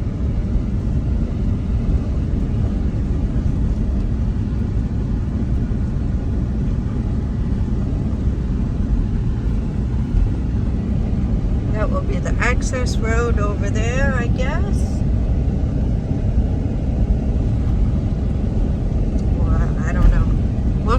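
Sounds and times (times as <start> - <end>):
car road and tyre noise: 0.0 - 20.9.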